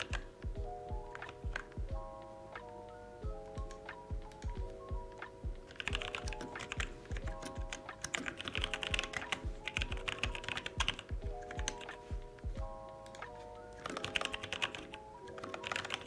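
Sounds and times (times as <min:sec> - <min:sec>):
computer keyboard typing: 0:00.0 - 0:02.1, 0:03.2 - 0:16.0
background music with steady beat: 0:00.0 - 0:16.0.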